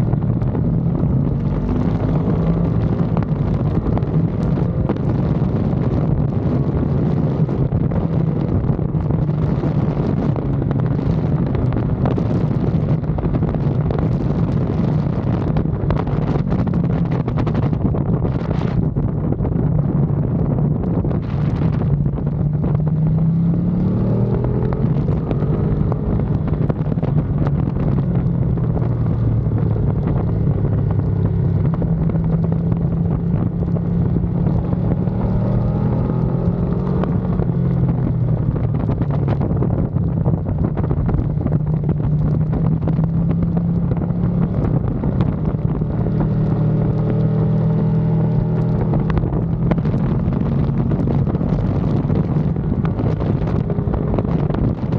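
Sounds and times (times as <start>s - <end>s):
motorcycle engine revving: 0.0s - 54.9s
wind rushing over microphone: 0.0s - 54.9s.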